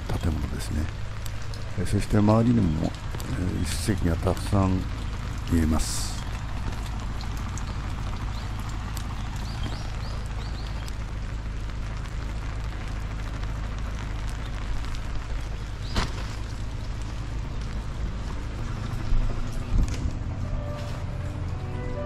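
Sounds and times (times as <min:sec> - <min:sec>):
low rumble: 0:00.0 - 0:22.0
rain on pavement: 0:00.0 - 0:22.0.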